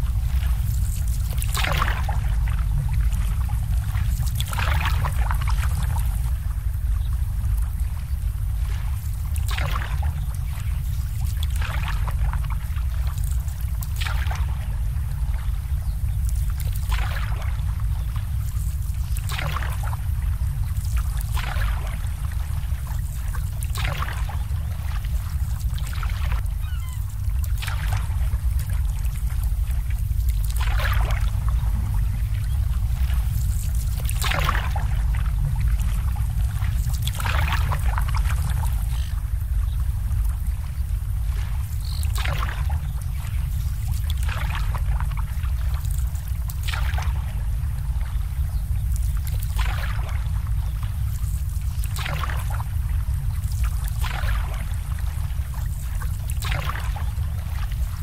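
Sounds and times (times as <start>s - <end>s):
low rumble: 0.0s - 58.0s
small waves lapping: 0.0s - 58.0s.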